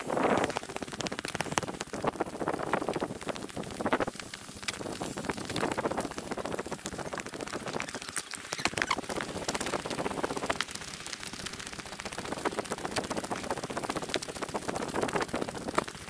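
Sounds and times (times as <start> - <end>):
rapid footsteps on dirt path: 0.0 - 16.0
steady hiss: 0.0 - 16.0.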